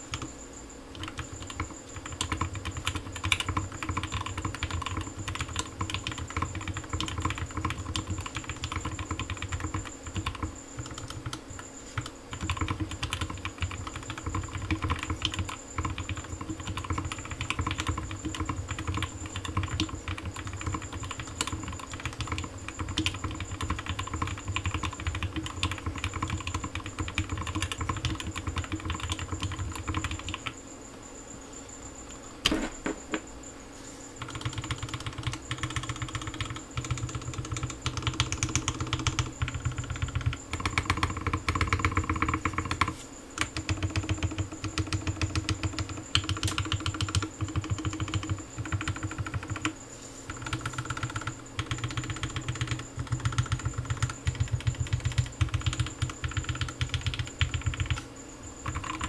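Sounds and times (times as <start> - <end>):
mechanical keyboard typing: 0.0 - 0.3, 0.9 - 30.6, 34.2 - 59.0.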